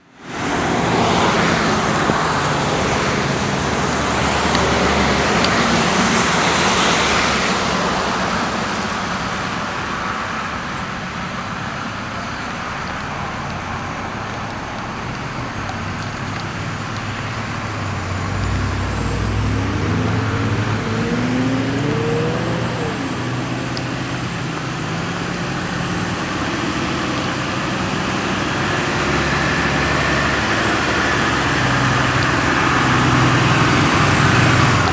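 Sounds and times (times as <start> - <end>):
diesel engine revving: 0.0 - 34.9
fire truck driving: 0.0 - 34.9
traffic: 0.0 - 34.9.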